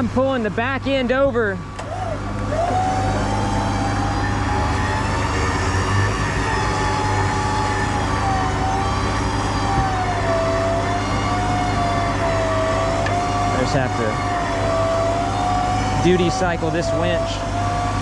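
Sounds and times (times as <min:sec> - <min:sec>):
electric winch motor whining: 0:00.0 - 0:18.0
low engine hum: 0:00.0 - 0:18.0.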